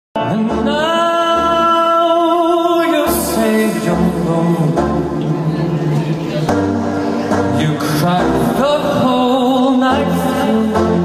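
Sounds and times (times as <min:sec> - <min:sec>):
instrumental accompaniment with bass: 0:00.2 - 0:11.0.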